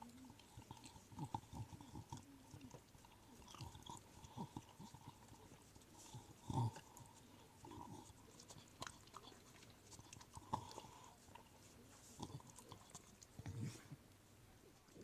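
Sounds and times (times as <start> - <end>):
dog licking and chewing: 0.0 - 15.0.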